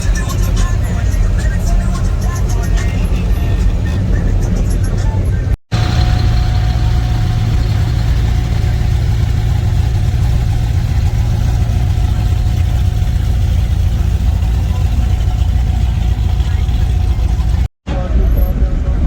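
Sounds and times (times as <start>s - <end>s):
car engine exhaust rumble: 0.0s - 19.0s.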